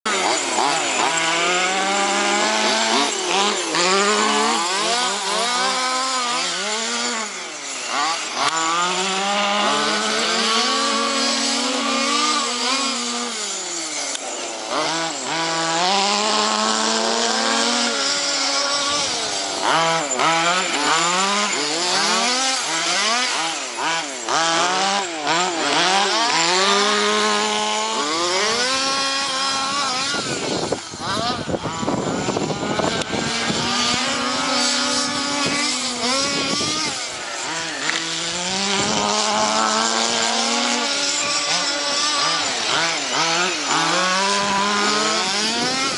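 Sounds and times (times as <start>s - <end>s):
rc car engines revving: 0.0s - 45.9s.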